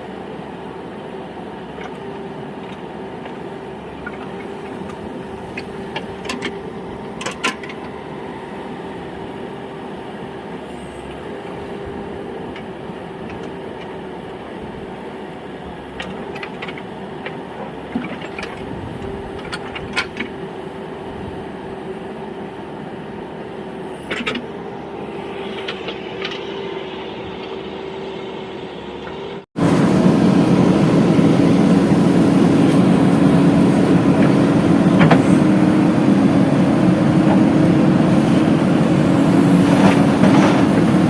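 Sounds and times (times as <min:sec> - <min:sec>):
diesel engines running: 0:00.0 - 0:41.0.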